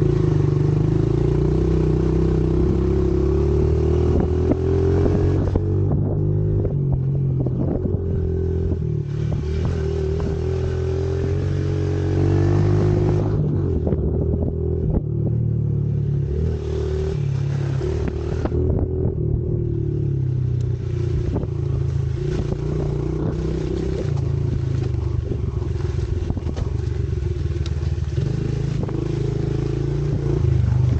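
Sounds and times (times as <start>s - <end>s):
motorbike engine revving: 0.0s - 30.9s.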